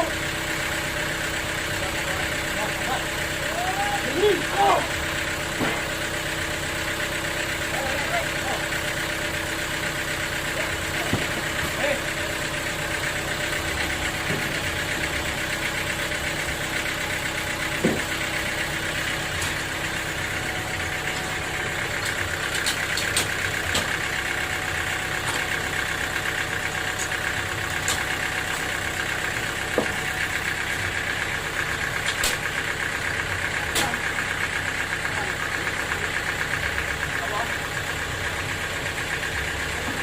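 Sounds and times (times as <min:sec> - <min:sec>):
sawmill machinery running: 0:00.0 - 0:40.0.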